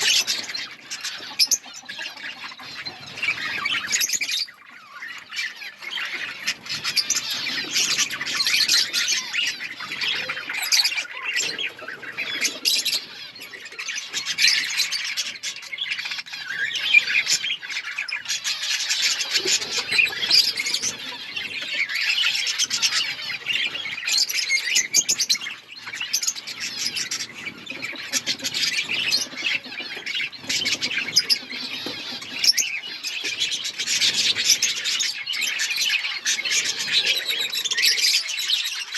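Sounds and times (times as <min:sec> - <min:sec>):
budgies chattering and chirping: 0:00.0 - 0:38.9.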